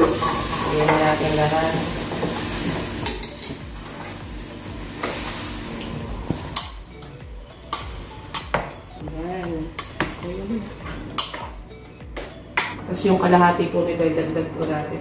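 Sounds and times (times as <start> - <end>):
fruit sizzling in pan: 0.0 - 14.6.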